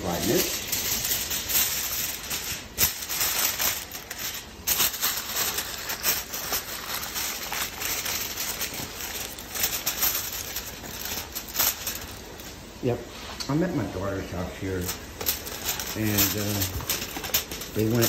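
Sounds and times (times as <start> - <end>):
aluminium foil crinkling: 0.0 - 12.7, 14.4 - 18.0.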